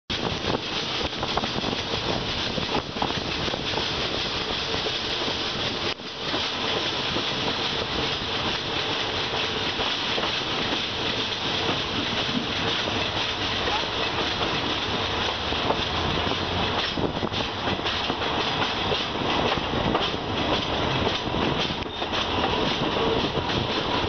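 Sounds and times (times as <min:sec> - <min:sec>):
train wheels on rails: 0:00.1 - 0:24.0.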